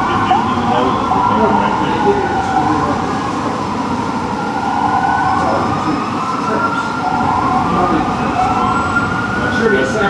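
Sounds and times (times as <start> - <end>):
fire truck sirens wailing: 0.0 - 10.0
low rumble of engines and traffic: 0.0 - 10.0.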